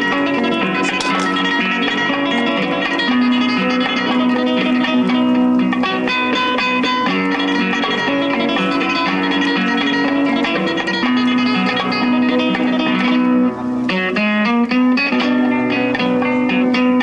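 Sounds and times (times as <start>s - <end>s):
guitar music through amplifier: 0.0s - 17.0s.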